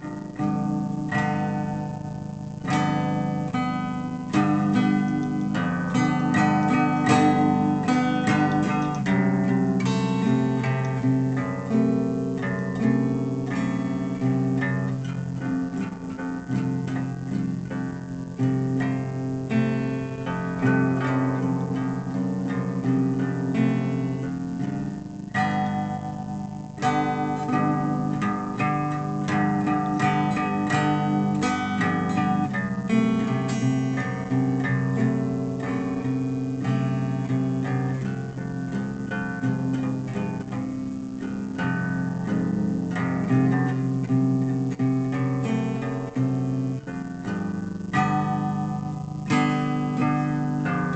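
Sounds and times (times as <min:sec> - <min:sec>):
guitar plucked and strummed: 0:00.0 - 0:50.9.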